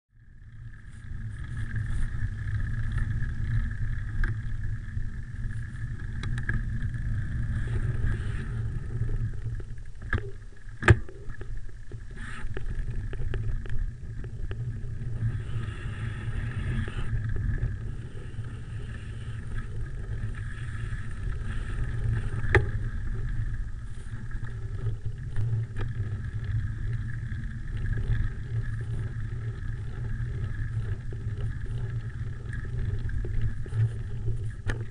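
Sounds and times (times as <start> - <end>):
bicycle rolling over gravel: 0.2 - 34.9
wind rumble on microphone: 0.2 - 34.9.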